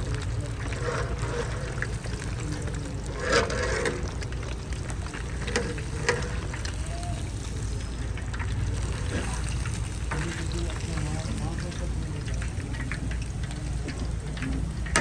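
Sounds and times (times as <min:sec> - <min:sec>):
faint voices: 0:00.0 - 0:15.0.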